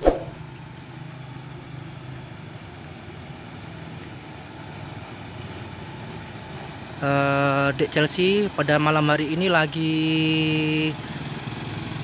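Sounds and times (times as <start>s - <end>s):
faint road noise: 0.0s - 12.0s
truck engine running: 0.3s - 12.0s.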